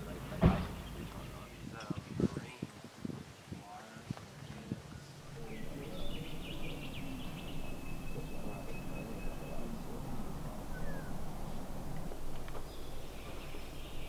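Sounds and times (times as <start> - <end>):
birds calling: 0.0 - 2.6, 4.3 - 14.0
outdoor background noise: 0.0 - 14.0.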